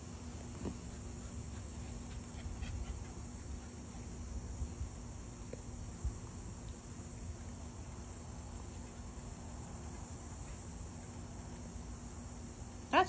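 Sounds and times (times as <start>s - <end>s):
crickets buzzing: 0.0s - 13.0s.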